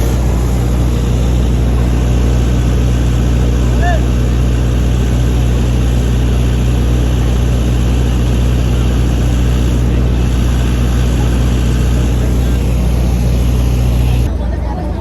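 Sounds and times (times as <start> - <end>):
motor droning: 0.0 - 14.3.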